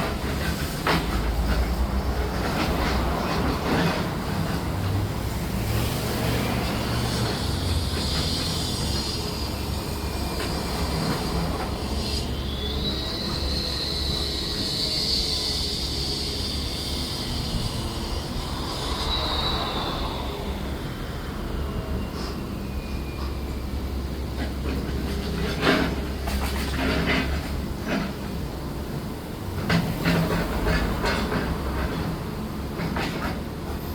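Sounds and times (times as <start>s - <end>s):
high-pitched metallic squeal: 0.2s - 28.1s.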